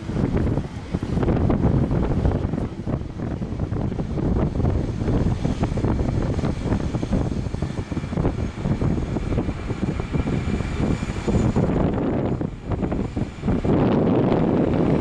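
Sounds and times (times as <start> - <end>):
faint jet engine whine: 0.0 - 15.0
wind buffeting microphone: 0.0 - 15.0.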